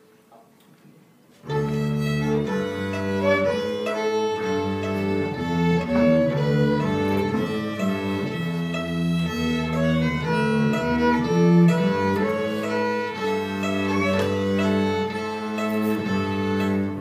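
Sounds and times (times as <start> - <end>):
sustained instrumental chords: 1.4 - 17.0.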